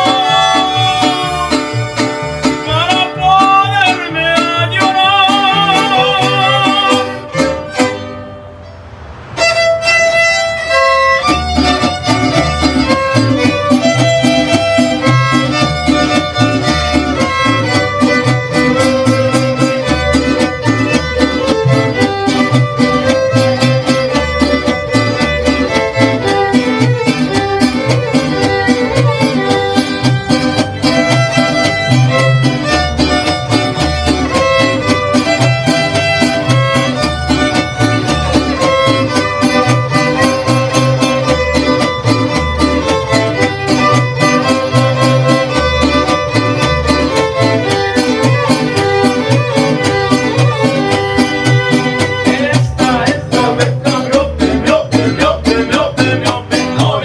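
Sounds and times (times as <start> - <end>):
fiddle music: 0.0 - 57.0.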